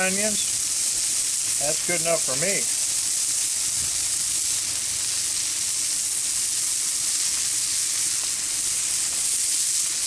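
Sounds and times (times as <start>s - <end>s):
meat and onions sizzling on a griddle: 0.0s - 10.0s.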